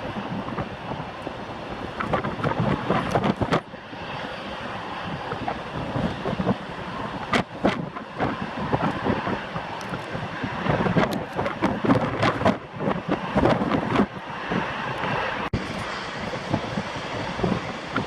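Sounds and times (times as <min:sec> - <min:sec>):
airliner engine noise: 0:00.0 - 0:18.0
wind gusting against microphone: 0:00.0 - 0:18.0.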